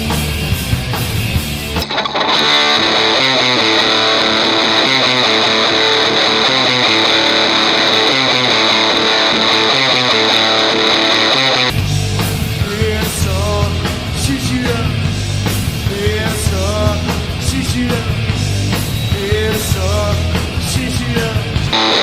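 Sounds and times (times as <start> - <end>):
distorted electric guitar riff: 0.0 - 22.0.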